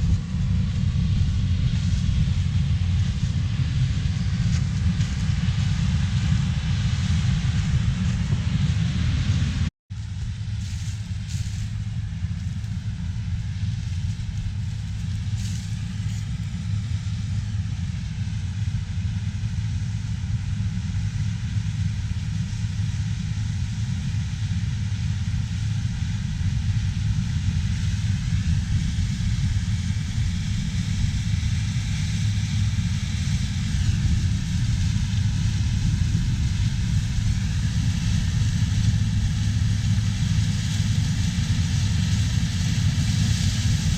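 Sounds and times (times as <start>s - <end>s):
diesel machinery rumbling: 0.0s - 43.9s
faint machine whine: 0.0s - 43.9s.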